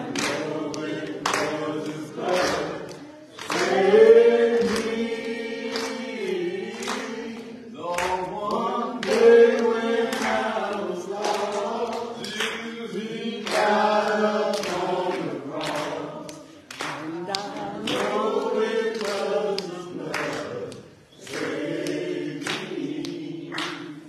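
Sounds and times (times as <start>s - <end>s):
congregation singing long notes: 0.0s - 24.0s.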